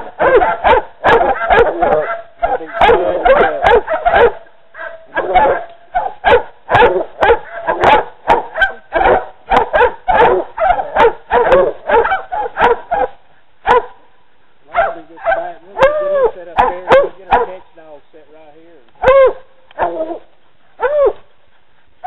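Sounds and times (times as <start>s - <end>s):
dogs baying: 0.1s - 14.1s, 14.7s - 17.6s, 19.0s - 22.0s.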